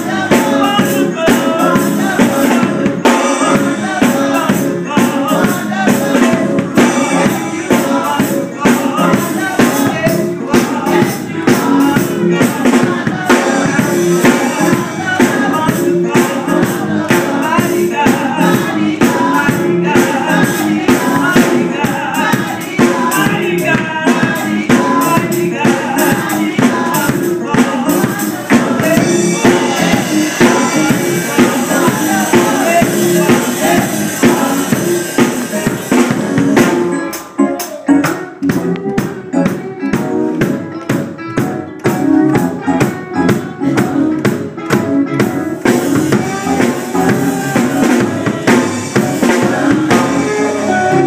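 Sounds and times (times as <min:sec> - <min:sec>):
drum kit: 0:00.0 - 0:51.0
gospel singers: 0:00.0 - 0:51.0
keyboard: 0:00.0 - 0:51.0.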